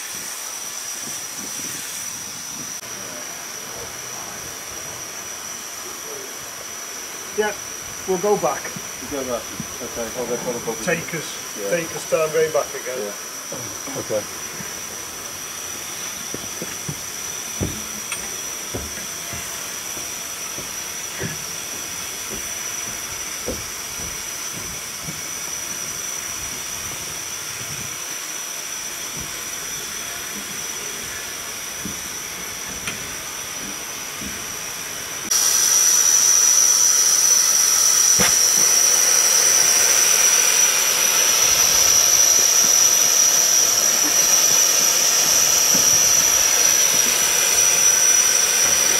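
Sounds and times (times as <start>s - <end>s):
steam hissing from locomotive: 0.0s - 48.9s.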